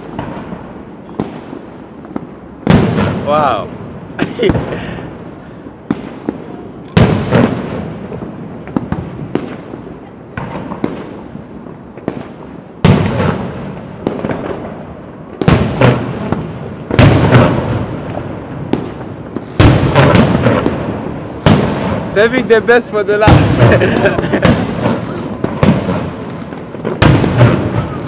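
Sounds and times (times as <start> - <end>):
small firework pops and cracks: 0.0 - 3.6, 4.2 - 22.1, 23.2 - 28.0
fireworks bursting with loud bangs: 0.0 - 28.0.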